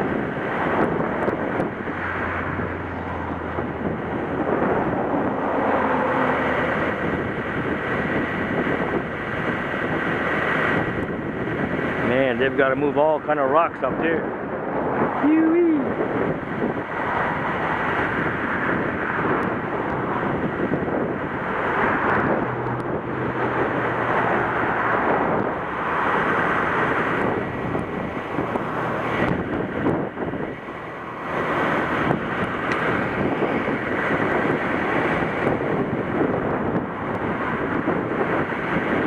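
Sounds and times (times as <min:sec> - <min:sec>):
ocean surf rushing: 0:00.0 - 0:39.0
wind gusting over microphone: 0:00.0 - 0:39.0.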